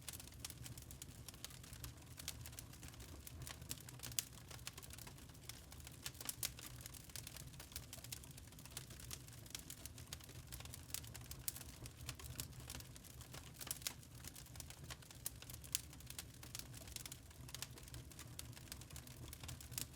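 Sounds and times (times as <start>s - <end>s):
fire popping and snapping: 0.1s - 19.9s.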